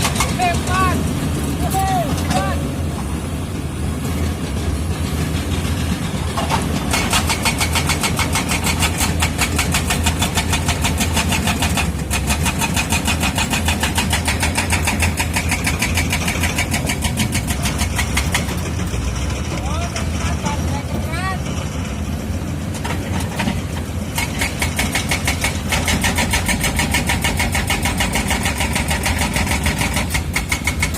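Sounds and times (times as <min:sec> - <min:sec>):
bulldozer diesel engine running: 0:00.0 - 0:30.9
steel tracks clattering: 0:00.0 - 0:30.9.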